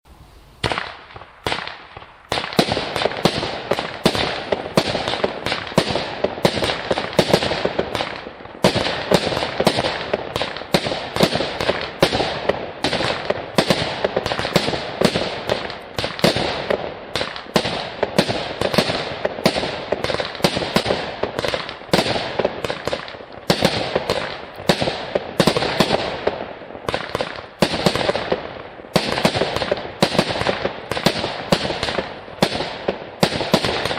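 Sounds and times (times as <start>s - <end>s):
fireworks launching and bursting: 0.1s - 33.9s.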